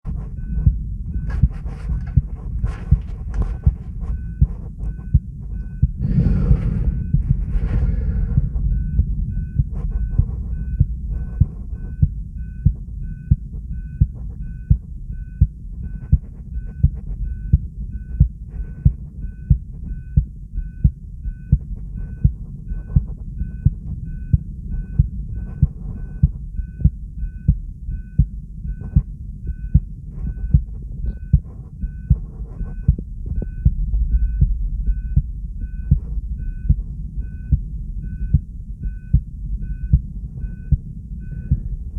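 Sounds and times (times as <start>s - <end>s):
heartbeat thumps: 0.0s - 41.9s
low steady rumble: 0.0s - 41.9s.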